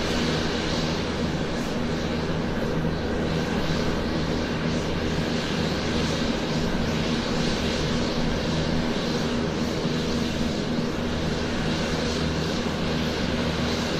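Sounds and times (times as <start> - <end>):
airplane engine taxiing: 0.0 - 13.9.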